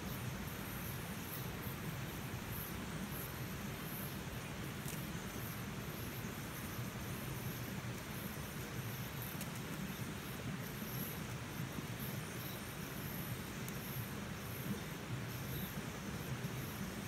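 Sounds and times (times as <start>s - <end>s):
insect chirps: 0.0s - 17.0s.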